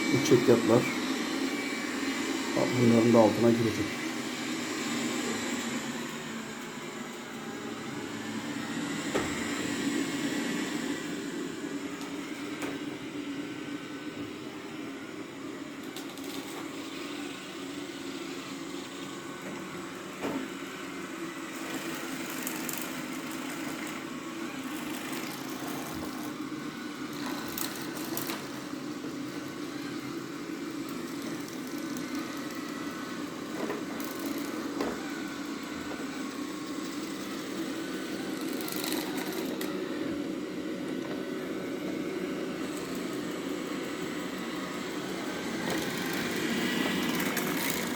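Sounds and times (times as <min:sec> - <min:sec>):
robot vacuum running: 0:00.0 - 0:47.9.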